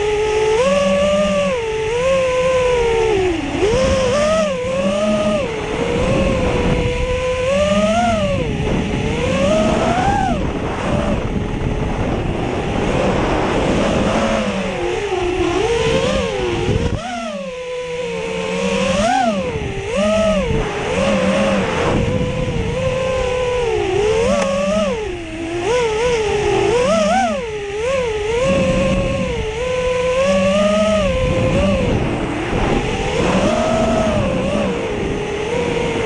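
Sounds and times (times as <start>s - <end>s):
drone motors whining: 0.0s - 36.0s
wind rumble on microphone: 0.0s - 36.0s.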